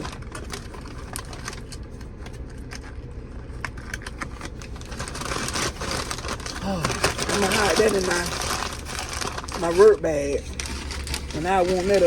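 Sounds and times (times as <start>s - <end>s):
food packaging rustling: 0.0s - 12.0s.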